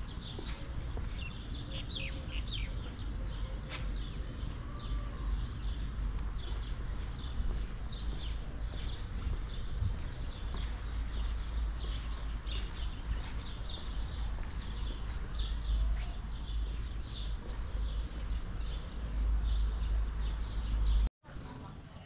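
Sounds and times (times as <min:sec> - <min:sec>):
steady low rumble: 0:00.0 - 0:21.1
small birds chirping: 0:00.0 - 0:22.0.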